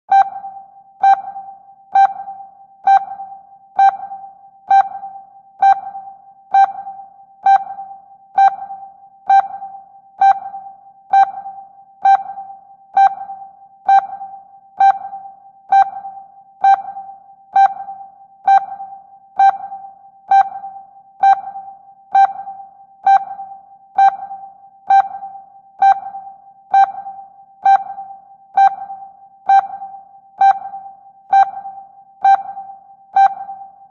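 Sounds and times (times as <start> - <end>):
sonar pinging beeps: 0.1 - 33.9.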